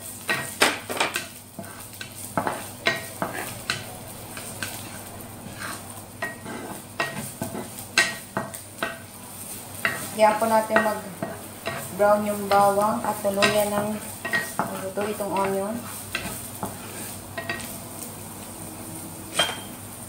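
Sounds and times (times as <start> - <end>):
garlic and onion sizzling in oil: 0.0 - 20.0.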